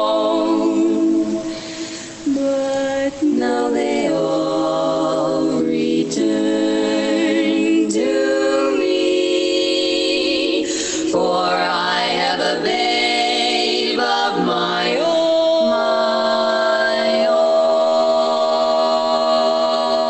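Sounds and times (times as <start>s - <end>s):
women singing in harmony: 0.0s - 20.0s.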